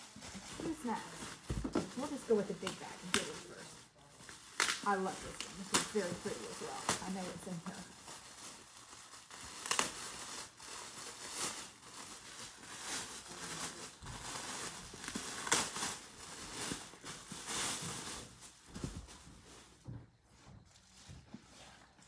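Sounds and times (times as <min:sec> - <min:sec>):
plastic wrapping crinkling: 0:00.0 - 0:19.8.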